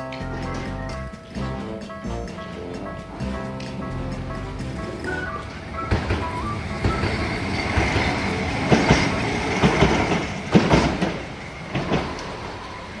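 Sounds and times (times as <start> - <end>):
train rumble: 0.0 - 13.0
wheels clacking over rail joints: 0.0 - 13.0.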